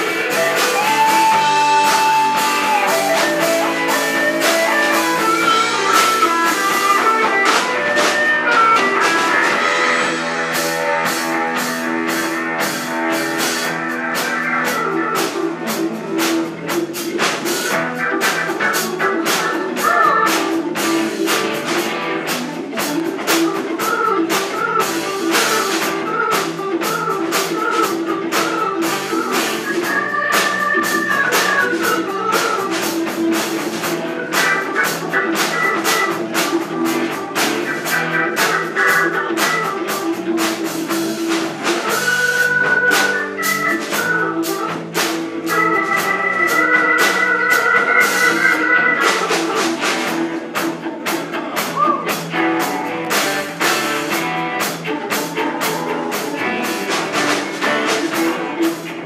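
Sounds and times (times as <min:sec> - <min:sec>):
bass: 0:00.0 - 0:59.0
drum beat: 0:00.0 - 0:59.0
electric guitar lead: 0:00.0 - 0:59.0
keyboards: 0:00.0 - 0:59.0.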